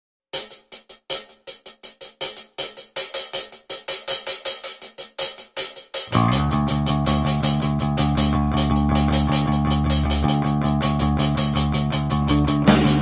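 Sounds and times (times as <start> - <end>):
drum and cymbal beat: 0.4 - 13.0.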